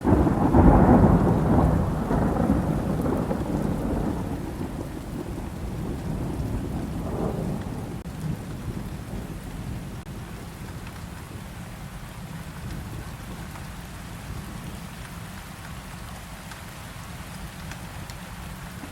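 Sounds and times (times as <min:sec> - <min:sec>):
low rumble of thunder: 0:00.0 - 0:15.2
heavy rain falling: 0:00.0 - 0:18.9.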